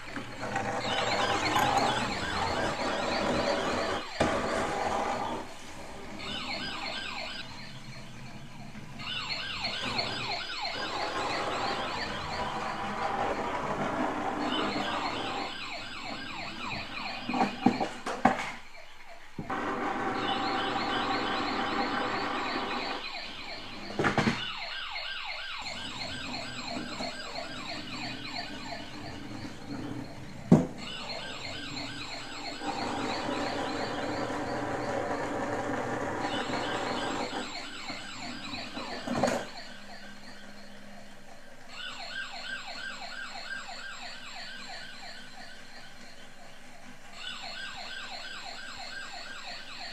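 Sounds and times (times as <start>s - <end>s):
toy siren warbling: 0.1s - 49.9s.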